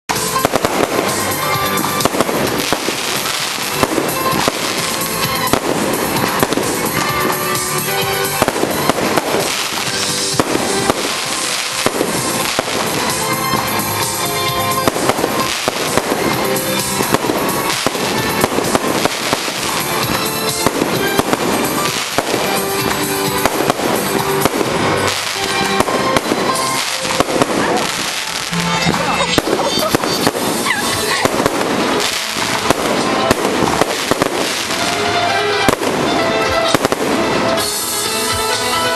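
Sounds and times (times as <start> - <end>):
music playing: 0.0 - 38.9
fireworks bangs and crackling: 0.1 - 38.9.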